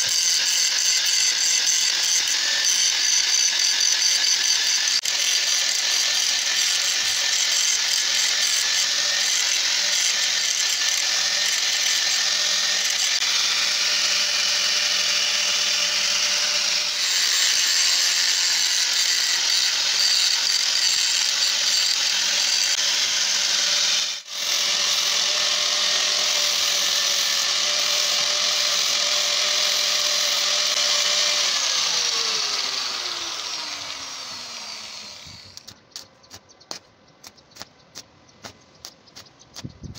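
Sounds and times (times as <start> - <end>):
angle grinder grinding metal: 0.0 - 36.8.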